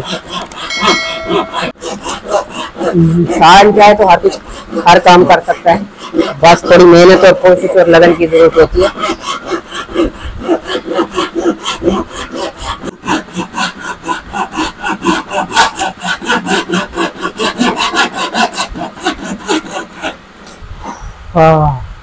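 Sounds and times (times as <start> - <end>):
handsaw cutting wood: 0.0 - 21.0.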